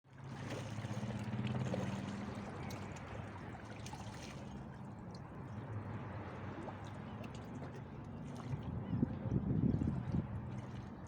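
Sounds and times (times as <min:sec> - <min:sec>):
water sloshing and trickling: 0:00.1 - 0:11.0.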